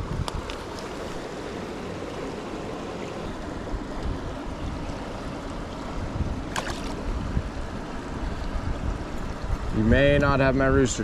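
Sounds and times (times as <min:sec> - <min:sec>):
river water rushing: 0:00.0 - 0:09.8.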